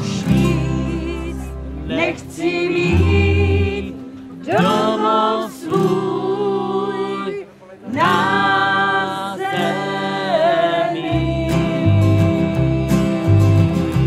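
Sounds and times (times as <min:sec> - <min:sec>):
acoustic guitars strummed: 0:00.0 - 0:14.0
women singing: 0:00.0 - 0:14.0.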